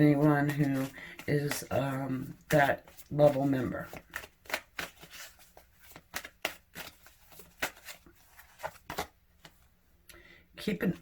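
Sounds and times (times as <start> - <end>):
cards being shuffled by hand: 0.0 - 9.7.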